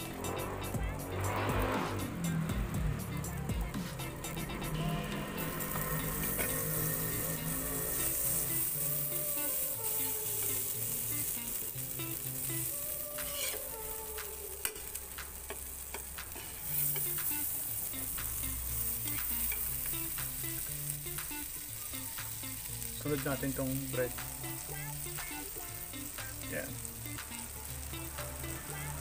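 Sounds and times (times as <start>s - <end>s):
food sizzling in butter: 0.0s - 29.0s.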